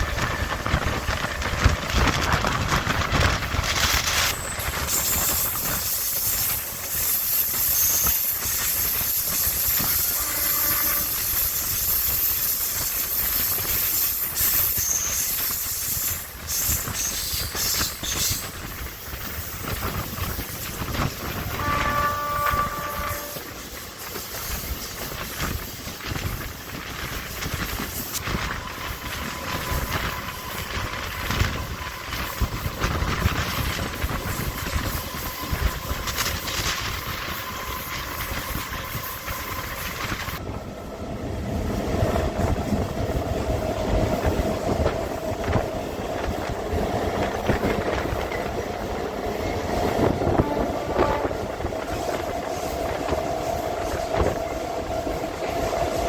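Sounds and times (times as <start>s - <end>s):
train wheels clattering over rails: 0.0s - 40.6s, 41.5s - 56.0s.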